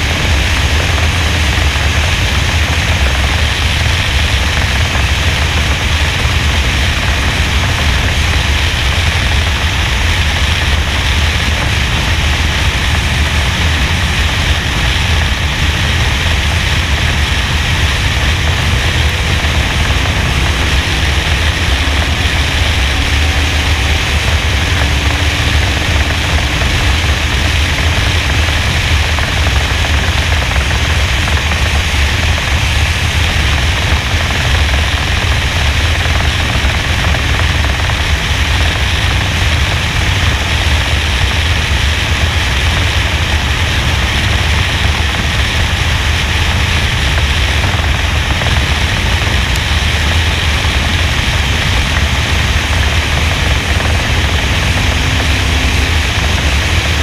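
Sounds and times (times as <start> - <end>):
loud wind noise: 0.0 - 57.0
race car engine: 0.0 - 57.0.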